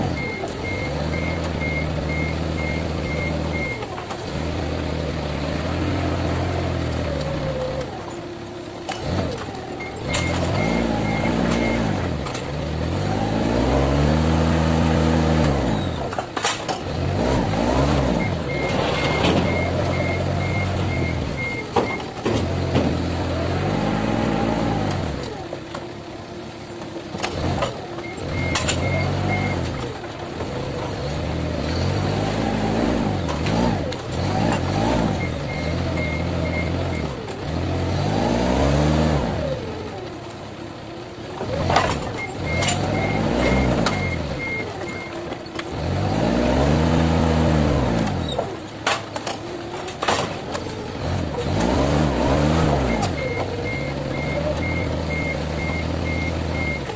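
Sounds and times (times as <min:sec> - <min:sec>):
forklift engine revving: 0:00.0 - 0:56.9.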